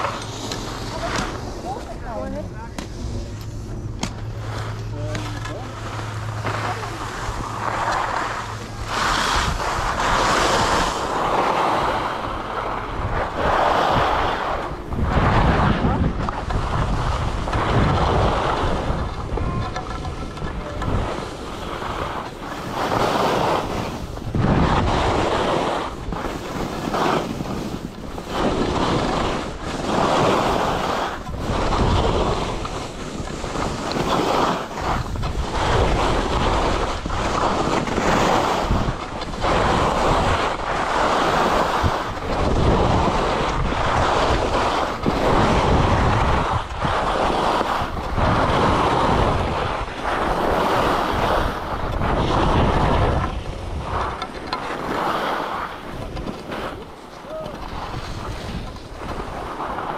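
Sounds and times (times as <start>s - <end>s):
skis scraping on snow: 0.0s - 59.9s
wind on microphone: 0.0s - 59.9s.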